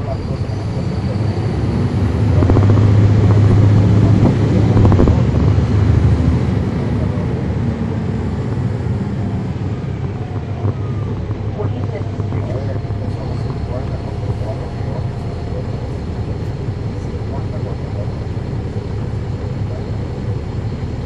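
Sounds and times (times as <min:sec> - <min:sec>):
bus diesel engine pulling hard: 0:00.0 - 0:21.0.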